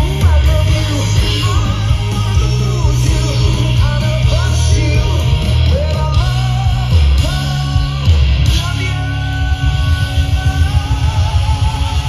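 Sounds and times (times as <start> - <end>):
bass: 0.0 - 12.0
drums: 0.0 - 12.0
electric guitars: 0.0 - 12.0
person singing lead vocals: 0.0 - 12.0.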